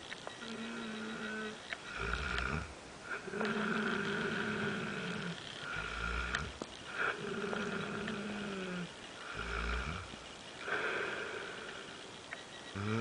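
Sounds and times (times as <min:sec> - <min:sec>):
pet snoring: 0:00.4 - 0:12.0, 0:12.7 - 0:13.0.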